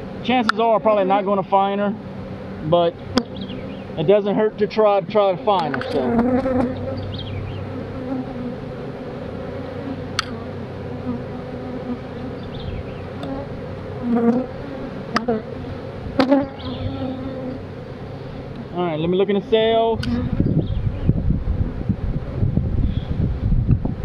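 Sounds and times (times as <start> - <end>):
bees buzzing: 0.0 - 23.5.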